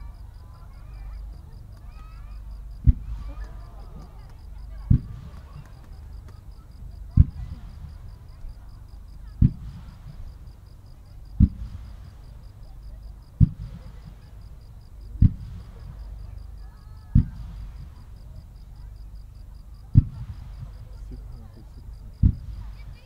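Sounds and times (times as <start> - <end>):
fireworks deep booms: 0.0 - 23.0.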